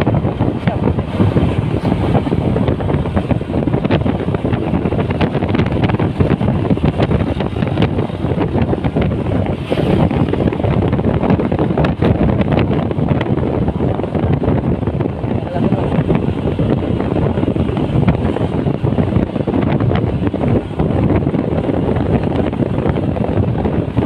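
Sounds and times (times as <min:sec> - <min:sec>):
moving vehicle road noise: 0:00.0 - 0:24.0
wind buffeting microphone: 0:00.0 - 0:24.0.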